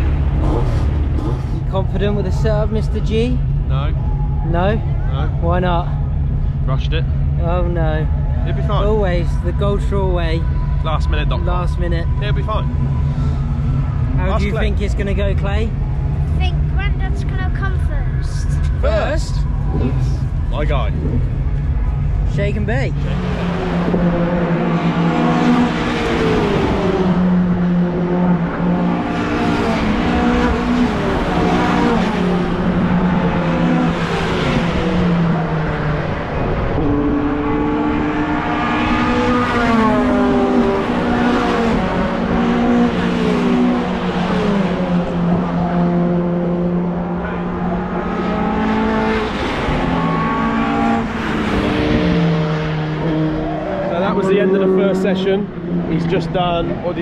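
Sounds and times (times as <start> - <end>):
racing truck engines passing: 0.0 - 57.0.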